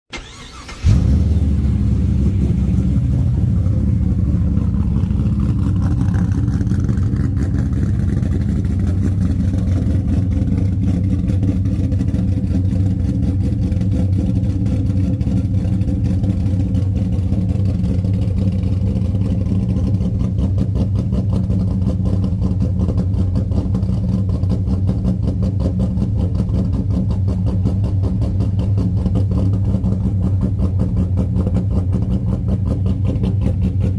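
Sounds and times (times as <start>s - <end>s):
car engine starting and idling: 0.1s - 33.9s.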